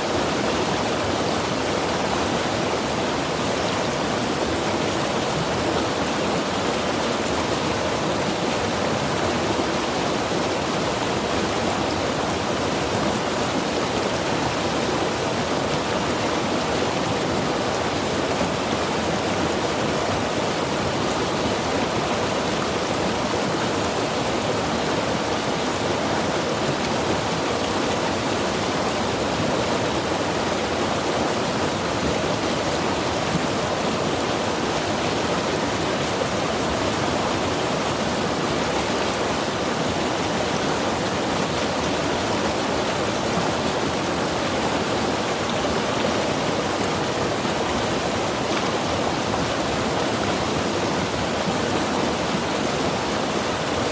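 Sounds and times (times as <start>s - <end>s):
river rushing over rocks: 0.0s - 53.9s.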